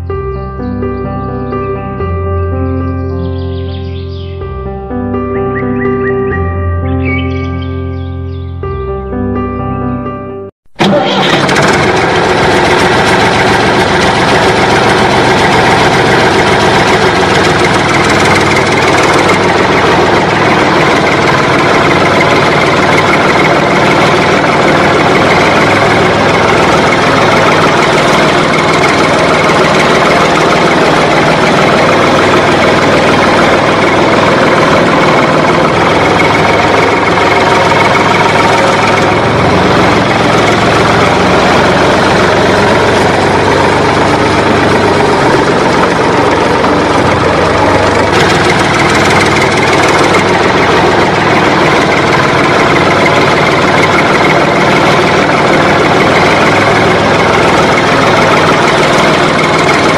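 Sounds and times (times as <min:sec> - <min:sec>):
engine idling: 0:10.7 - 0:59.9.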